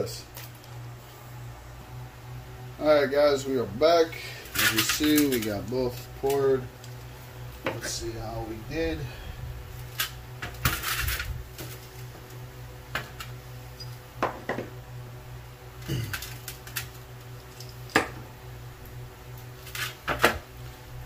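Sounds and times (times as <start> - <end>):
low hum: 0.0 - 19.8.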